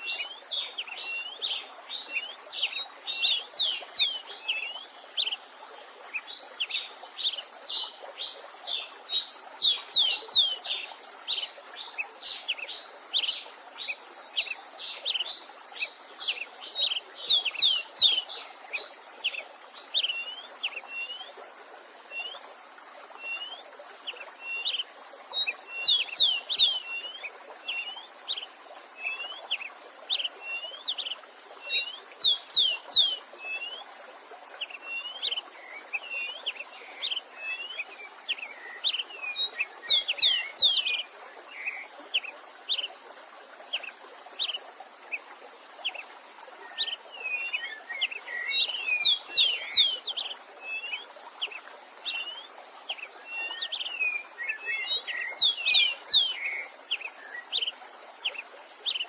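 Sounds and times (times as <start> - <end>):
songbirds singing: 0.0 - 59.0
stream rushing: 0.0 - 59.0.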